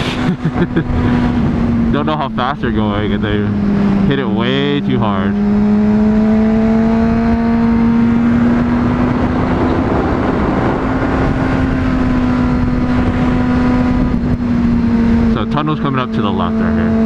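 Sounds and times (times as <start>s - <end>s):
wind rushing over microphone: 0.0s - 15.6s
motorcycle engine at high revs: 0.0s - 17.0s.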